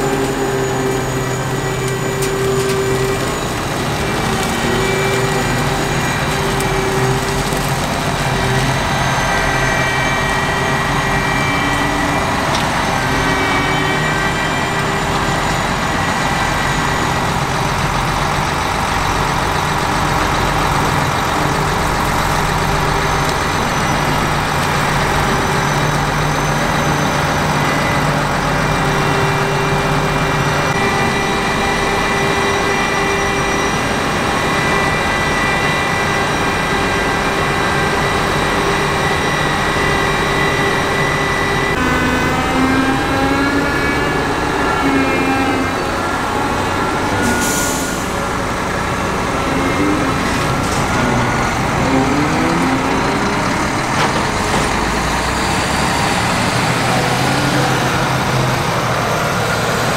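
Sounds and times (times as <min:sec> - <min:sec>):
high whines: 0:00.0 - 0:58.5
combine harvester engine: 0:00.0 - 0:59.9.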